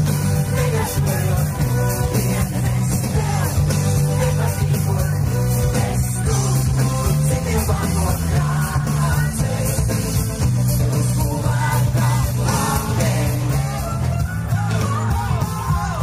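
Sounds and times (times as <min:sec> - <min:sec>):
live pop rock band: 0:00.0 - 0:16.0
steady bass line: 0:00.0 - 0:16.0
person singing: 0:00.2 - 0:16.0.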